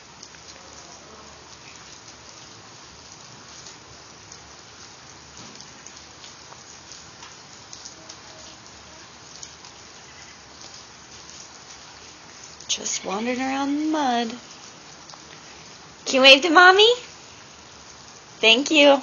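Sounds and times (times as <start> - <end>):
heavy rain falling: 0.0 - 19.0
raindrops ticking on surfaces: 0.0 - 19.0.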